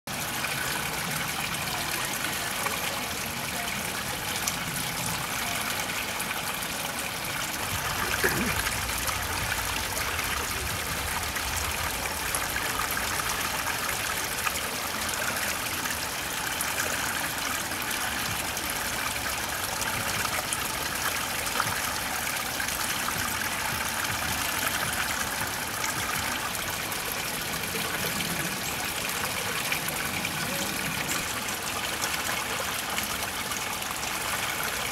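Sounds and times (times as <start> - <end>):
water trickling over rocks: 0.1 - 34.9.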